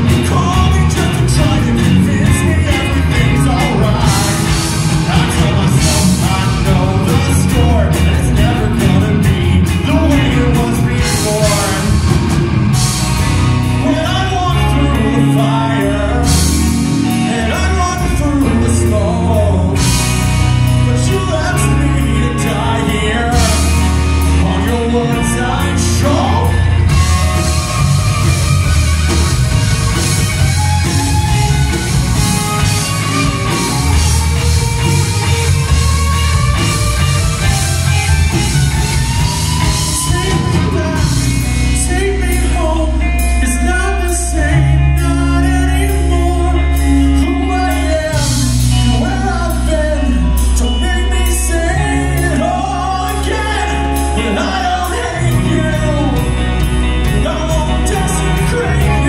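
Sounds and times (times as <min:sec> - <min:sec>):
live rock band playing: 0:00.0 - 0:59.0
male lead vocal: 0:00.0 - 0:59.0.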